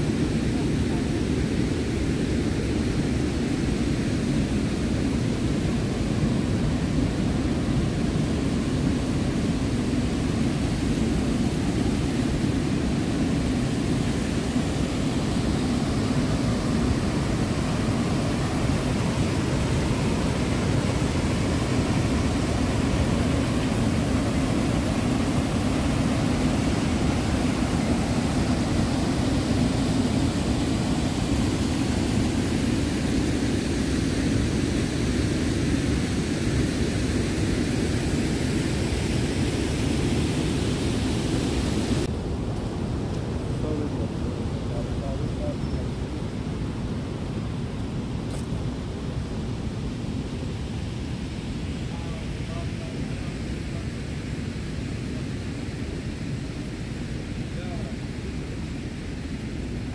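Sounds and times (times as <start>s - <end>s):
roar of rushing waterfall: 0.0s - 59.9s.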